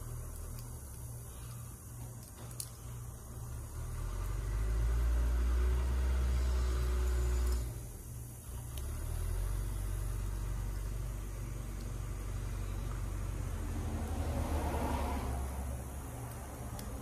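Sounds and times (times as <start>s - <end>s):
low engine-like rumble: 0.0s - 17.0s.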